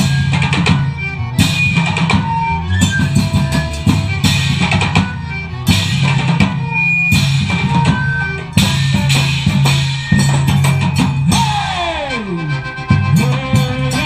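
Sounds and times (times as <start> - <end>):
dense drumming: 0.0 - 14.0
sustained low bass notes: 0.0 - 14.0.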